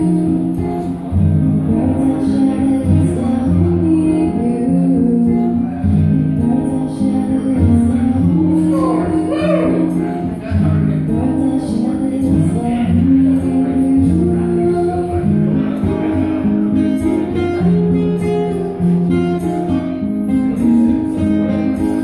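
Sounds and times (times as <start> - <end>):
woman singing into a microphone: 0.0 - 19.4
acoustic guitars strummed: 0.0 - 22.0.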